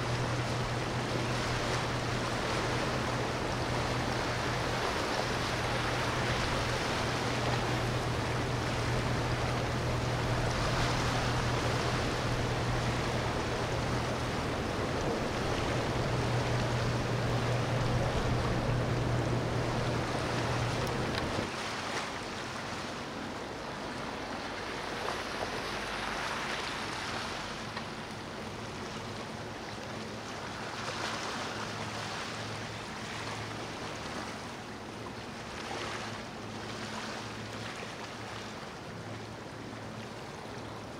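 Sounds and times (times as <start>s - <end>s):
low boat engine hum: 0.0s - 40.9s
wake water washing and splashing: 0.0s - 40.9s.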